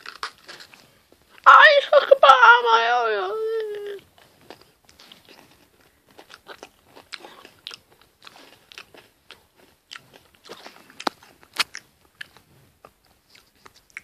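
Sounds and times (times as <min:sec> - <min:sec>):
cookie chewing crunches: 0:00.0 - 0:01.4, 0:04.0 - 0:14.0.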